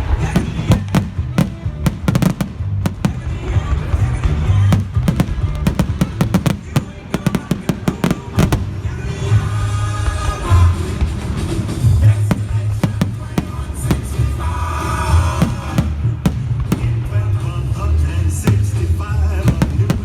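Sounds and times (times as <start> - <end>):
firework bangs and crackles: 0.0 - 20.0
loud show music with heavy bass: 0.0 - 20.0.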